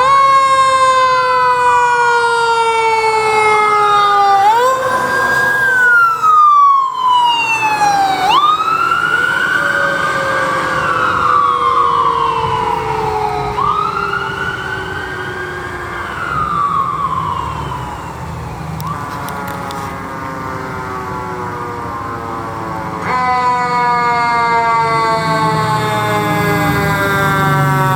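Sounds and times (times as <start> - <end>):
different siren tone: 0.0 - 27.9
emergency siren wailing: 0.0 - 27.9
lower siren tone sliding down: 0.0 - 27.9.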